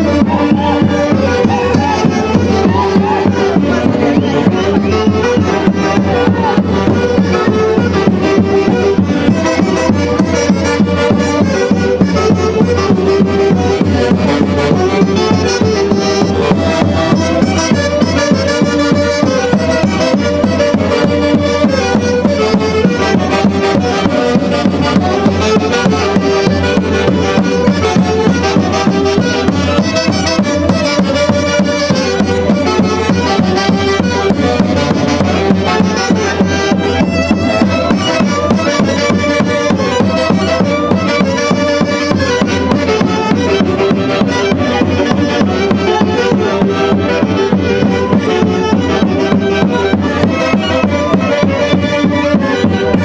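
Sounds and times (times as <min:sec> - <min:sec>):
folk orchestra playing lively tune: 0:00.0 - 0:53.0.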